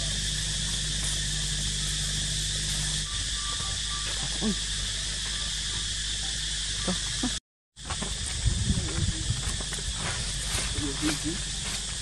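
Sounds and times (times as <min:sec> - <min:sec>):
faint insect calls: 0:00.0 - 0:12.0
high-pitched insect drone: 0:00.0 - 0:12.0.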